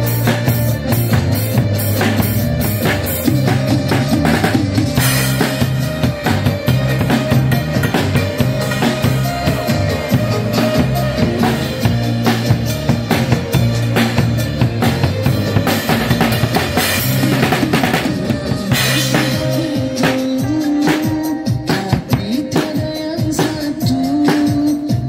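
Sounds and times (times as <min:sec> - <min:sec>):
drum kit playing: 0:00.0 - 0:25.0
live band music: 0:00.0 - 0:25.0.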